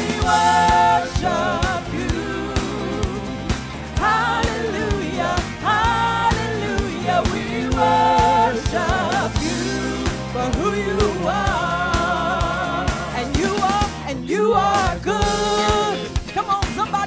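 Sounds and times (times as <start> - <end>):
woman and men singing: 0.0 - 16.9
instrumental accompaniment with beat: 0.0 - 17.0.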